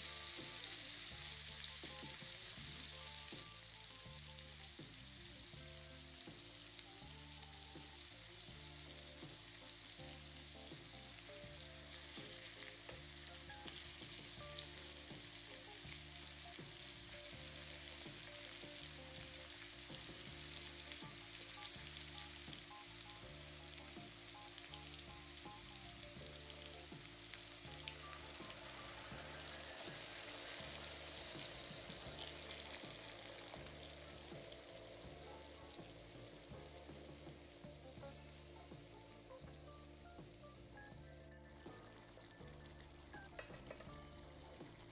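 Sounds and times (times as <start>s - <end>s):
food sizzling in oil: 0.0s - 44.9s.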